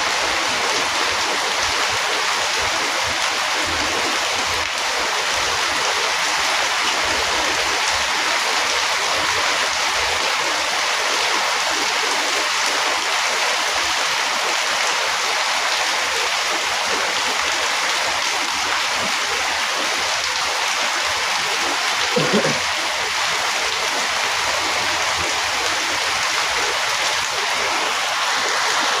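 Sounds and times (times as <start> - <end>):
rain falling steadily: 0.0 - 29.0.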